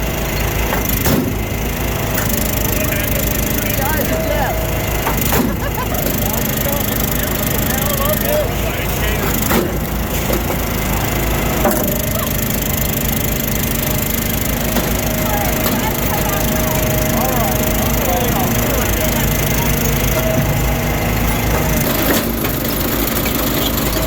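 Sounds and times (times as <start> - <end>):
firewood splitting machine running: 0.0 - 24.0.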